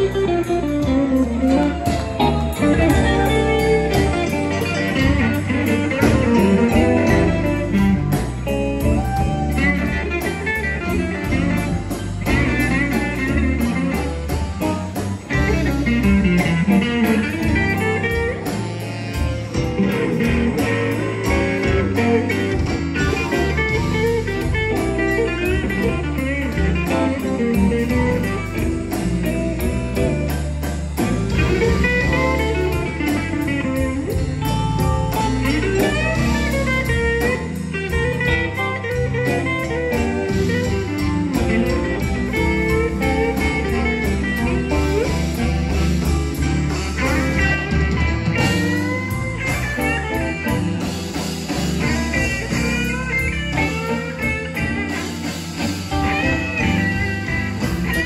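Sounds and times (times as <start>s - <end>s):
drum kit: 0.0s - 58.0s
electric guitars: 0.0s - 58.0s
lead guitar with bent notes: 0.0s - 58.0s.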